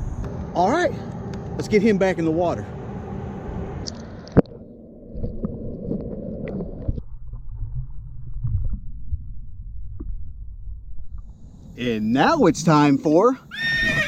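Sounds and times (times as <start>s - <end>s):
low rumbling water: 0.0s - 12.8s.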